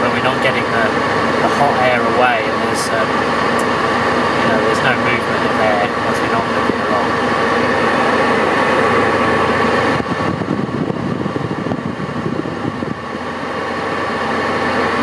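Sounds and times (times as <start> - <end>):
air-conditioning fan rushing: 0.0 - 15.0
low electric hum: 0.0 - 15.0.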